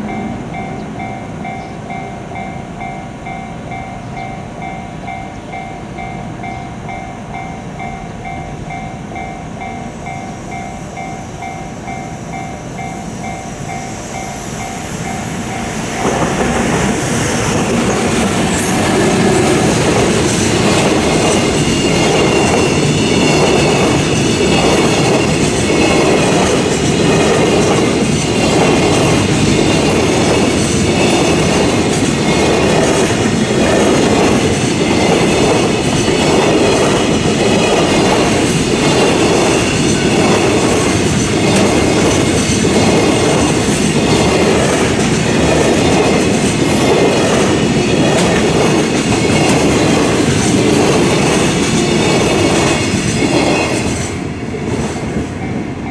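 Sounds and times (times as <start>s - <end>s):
crossing warning bell ringing: 0.0s - 55.9s
train wheels clattering over rails: 9.2s - 55.9s.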